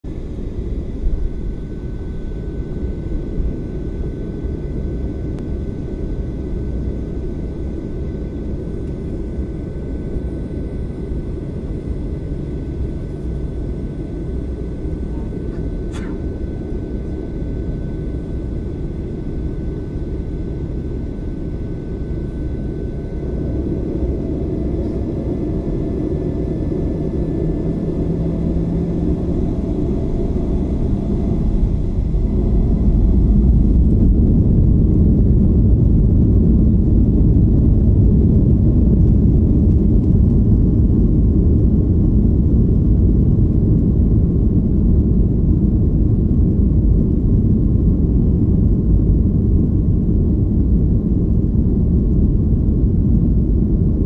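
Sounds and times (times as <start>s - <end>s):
jet engines in airplane cabin: 0.0s - 54.0s.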